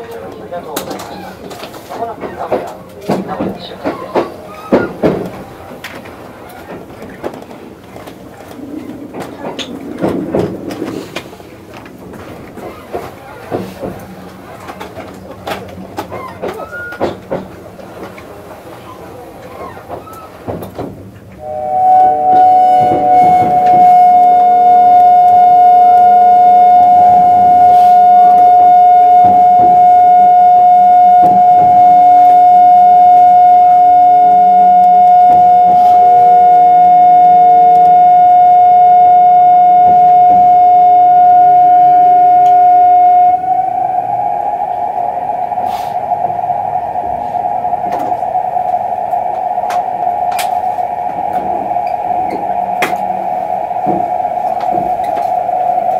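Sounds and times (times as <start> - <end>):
train traction motors whining: 0.0 - 55.9.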